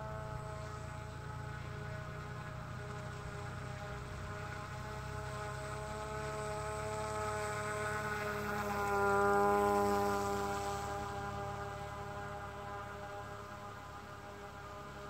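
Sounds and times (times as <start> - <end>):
fan boat motor droning: 0.0 - 15.0.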